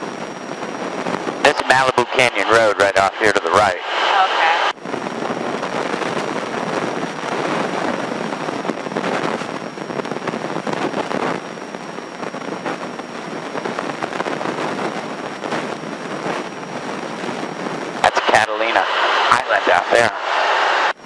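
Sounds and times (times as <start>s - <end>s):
rushing airflow: 0.0s - 21.0s.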